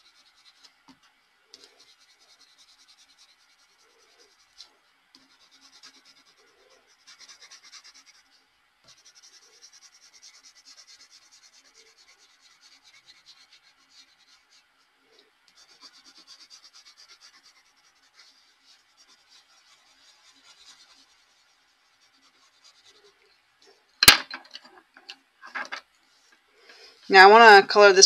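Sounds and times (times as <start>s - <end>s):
pencil scratching on paper: 0.0s - 0.9s, 1.5s - 23.2s.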